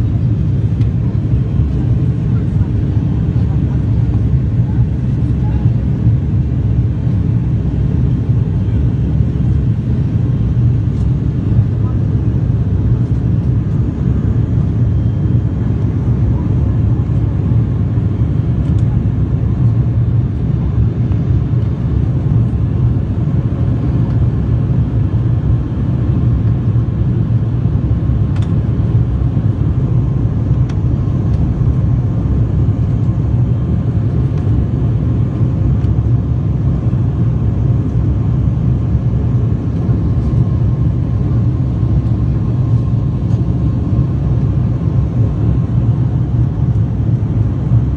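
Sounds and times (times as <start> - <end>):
turboprop engines droning: 0.0 - 47.9.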